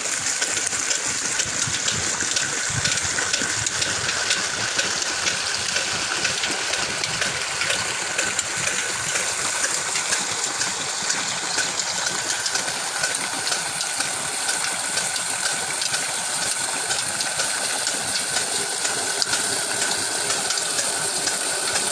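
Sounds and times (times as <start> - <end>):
diesel engine running: 0.0 - 21.9
water gushing into tank: 0.0 - 21.9.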